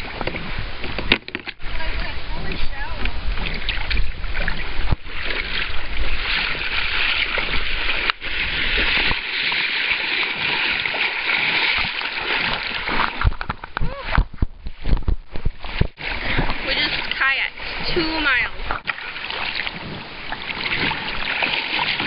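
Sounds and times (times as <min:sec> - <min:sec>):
water splashing around kayak: 0:00.0 - 0:22.0.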